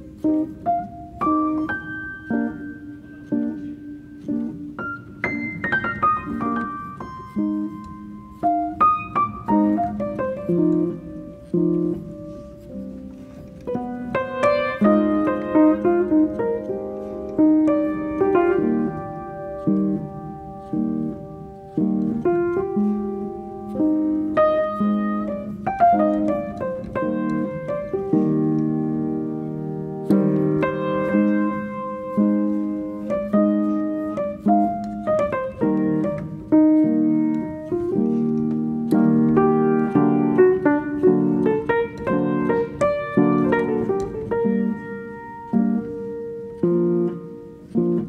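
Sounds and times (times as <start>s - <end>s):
piano chords ringing: 0.0s - 48.0s.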